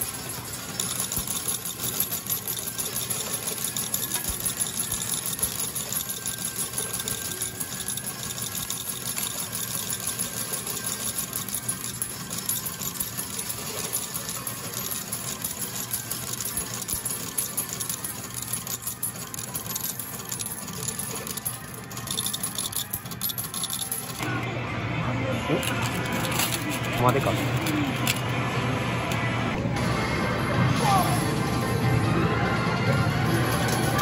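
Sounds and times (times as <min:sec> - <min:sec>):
coin pusher medals clattering: 0:00.0 - 0:24.4, 0:25.5 - 0:28.4, 0:32.9 - 0:34.0.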